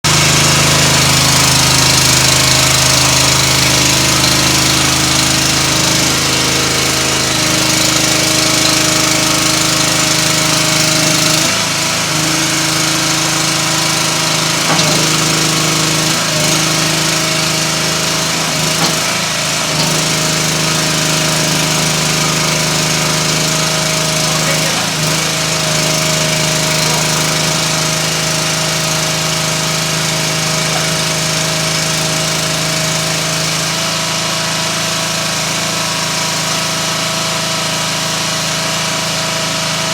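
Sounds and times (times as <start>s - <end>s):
skid loader engine running: 0.0s - 39.9s.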